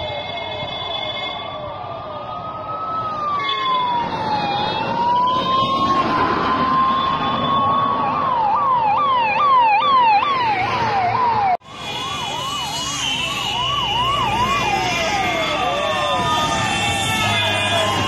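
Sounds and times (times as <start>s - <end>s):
ambulance siren wailing and yelping: 0.0s - 18.0s.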